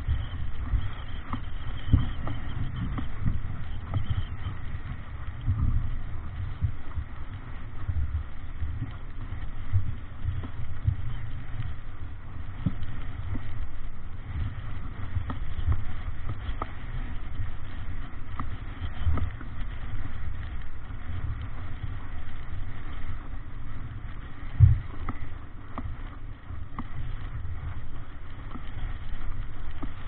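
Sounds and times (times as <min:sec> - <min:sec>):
small ticks and knocks: 0:00.0 - 0:30.0
water rushing along hull: 0:00.0 - 0:30.0
wind buffeting microphone: 0:00.0 - 0:30.0.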